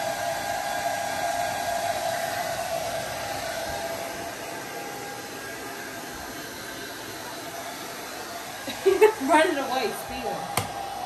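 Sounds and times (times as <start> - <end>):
blow dryer running: 0.0 - 11.0.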